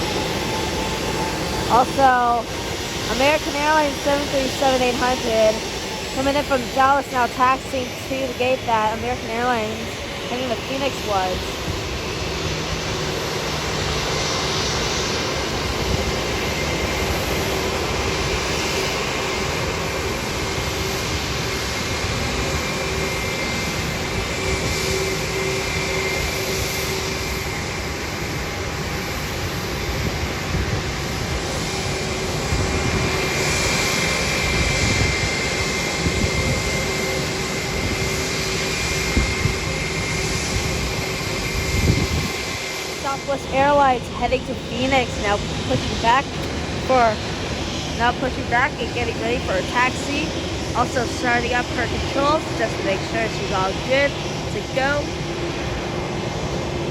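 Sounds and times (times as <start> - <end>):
jet engines idling: 0.0 - 56.9.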